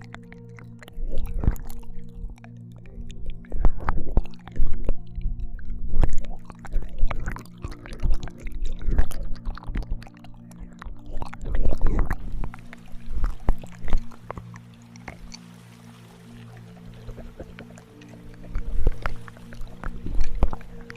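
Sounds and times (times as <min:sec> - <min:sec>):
wet mouth smacks and slurps: 0:00.0 - 0:05.0, 0:05.6 - 0:15.5, 0:16.2 - 0:20.9
soft background drone tones: 0:00.0 - 0:20.9.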